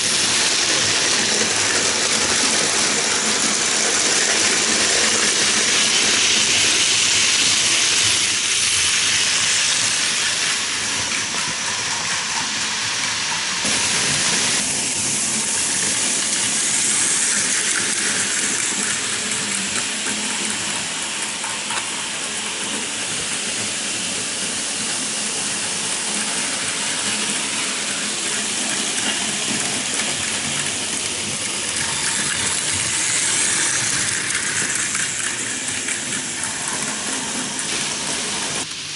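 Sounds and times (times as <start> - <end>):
toy trains whirring on tracks: 0.0 - 38.9.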